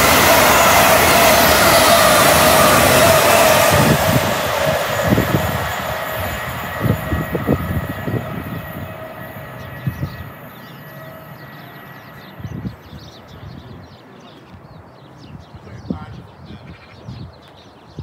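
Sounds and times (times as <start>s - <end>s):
passing train rush and hiss: 0.0s - 16.6s.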